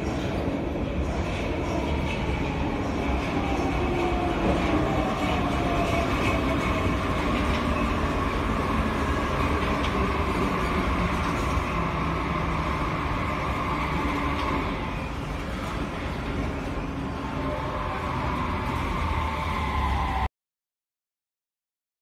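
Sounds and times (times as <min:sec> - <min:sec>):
train wheels rumbling on rails: 0:00.0 - 0:20.3.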